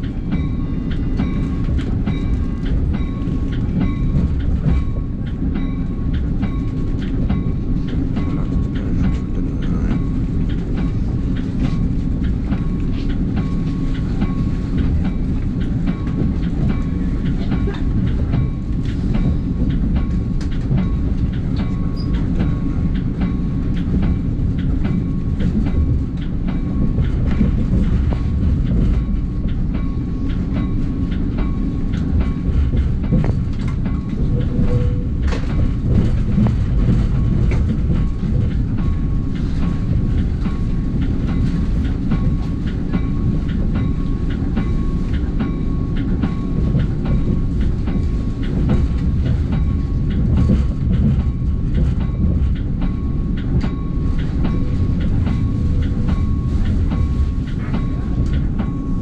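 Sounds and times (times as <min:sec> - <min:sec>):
wheels rumbling on track: 0:00.0 - 0:59.0.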